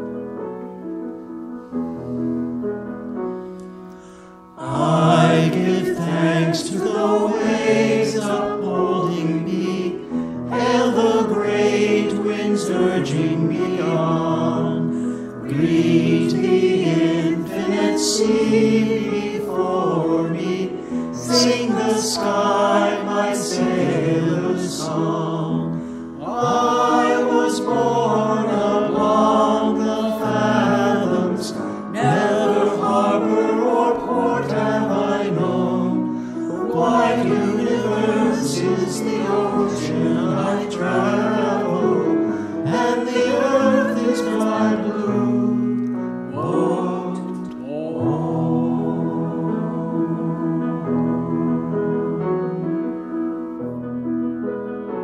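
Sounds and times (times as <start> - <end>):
choir singing a hymn: 4.5 - 53.6.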